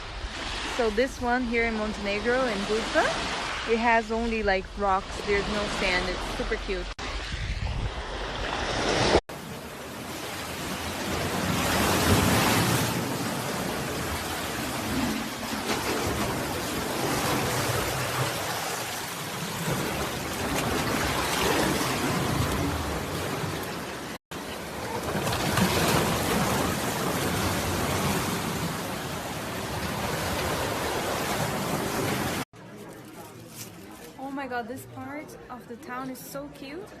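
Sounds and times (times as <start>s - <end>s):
sea waves on pebble beach: 0.0s - 7.0s, 8.2s - 32.4s.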